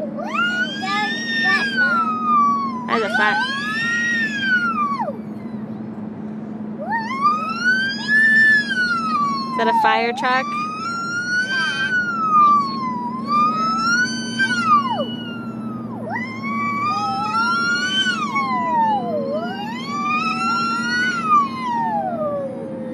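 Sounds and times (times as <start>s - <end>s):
emergency siren wailing: 0.0s - 5.9s, 6.6s - 22.9s
steady low hum: 0.0s - 22.9s.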